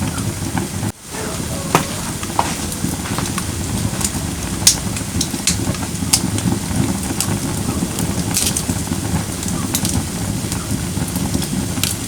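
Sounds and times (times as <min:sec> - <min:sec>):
firewood crackling and popping: 0:00.9 - 0:12.0
flames rushing: 0:00.9 - 0:12.0.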